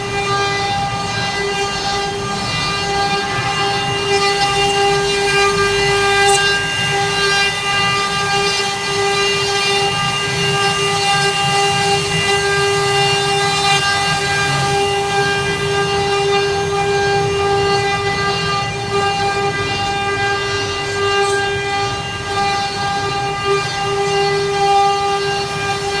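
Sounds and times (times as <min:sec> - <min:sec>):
router spindle motor whine: 0:00.0 - 0:26.0.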